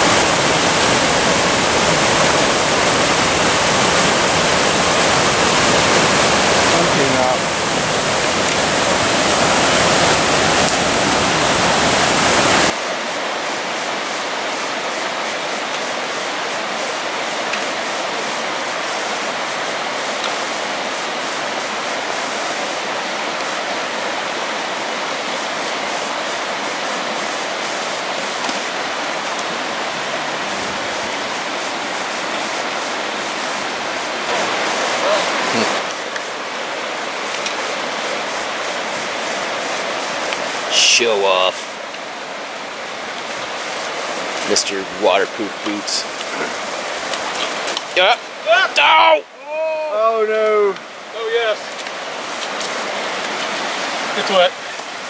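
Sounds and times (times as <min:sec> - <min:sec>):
creek water rushing: 0:00.0 - 0:55.0
small stream flowing: 0:00.0 - 0:55.0.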